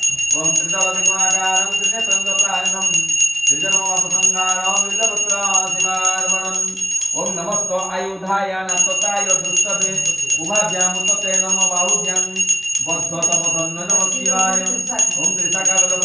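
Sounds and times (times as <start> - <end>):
hand bell ringing rapidly: 0.0 - 16.0
person chanting: 0.0 - 16.0.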